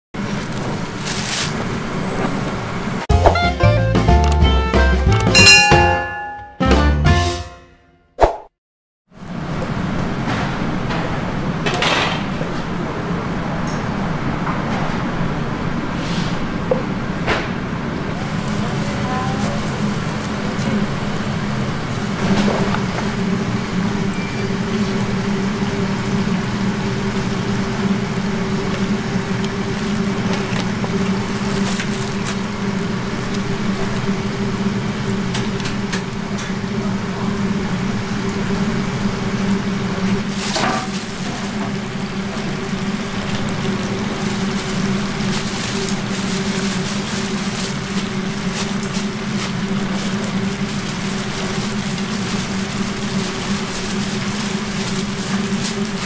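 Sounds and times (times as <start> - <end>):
low machine hum: 9.2 - 56.0.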